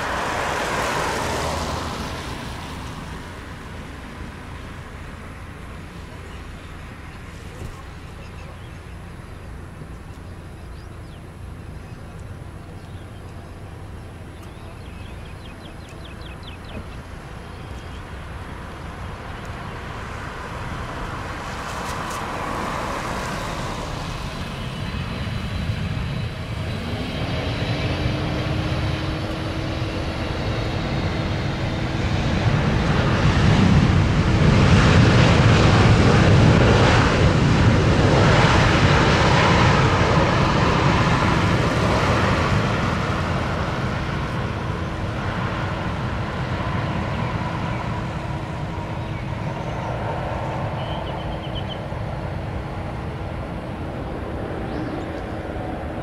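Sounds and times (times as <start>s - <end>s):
jet engine roar and whine: 0.0s - 56.0s.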